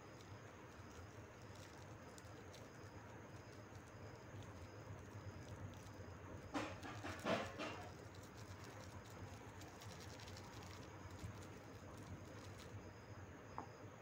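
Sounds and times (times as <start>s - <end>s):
foil sachet crinkling: 0.0s - 12.8s
seasoning pattering: 0.0s - 13.1s.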